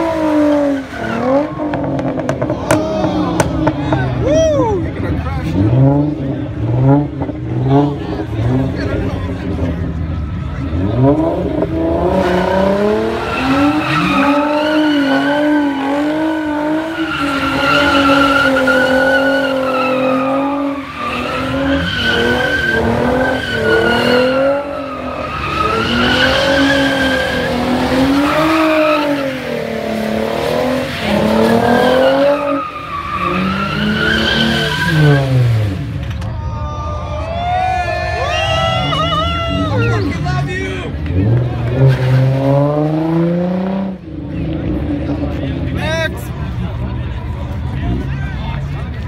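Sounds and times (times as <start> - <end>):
car engine revving: 0.0 - 36.2, 38.8 - 49.0.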